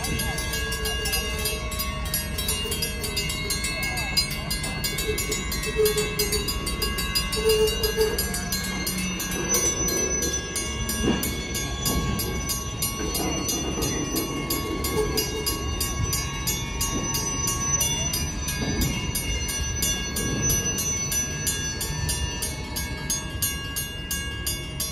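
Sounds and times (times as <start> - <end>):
crossing signal bell ringing: 0.0 - 24.9
train wheels clanking over rails: 0.0 - 24.9.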